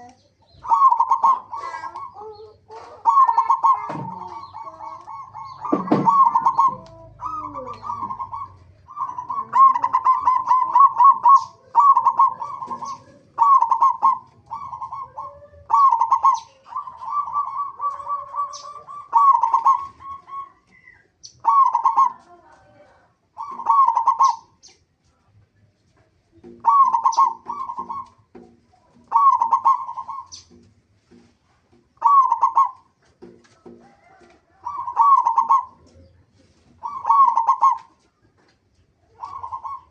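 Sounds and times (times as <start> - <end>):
dove cooing: 0.0 - 24.6, 26.3 - 30.7, 31.9 - 39.9.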